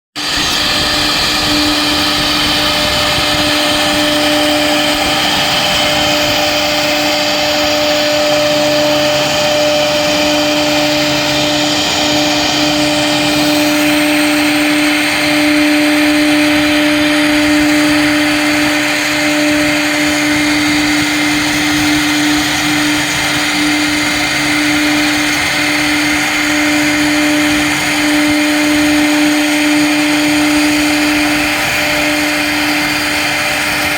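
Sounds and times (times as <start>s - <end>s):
low hum: 0.2s - 33.9s
router bit cutting sheet: 0.2s - 33.9s
router spindle running: 0.2s - 33.9s.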